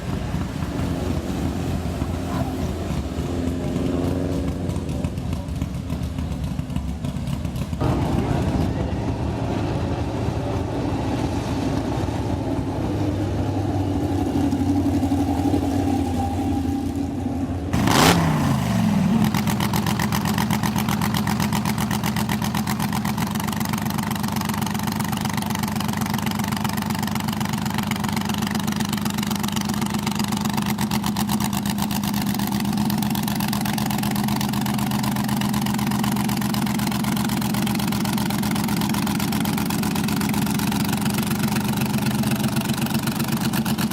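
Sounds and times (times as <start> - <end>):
race car engine idling: 0.0 - 43.9.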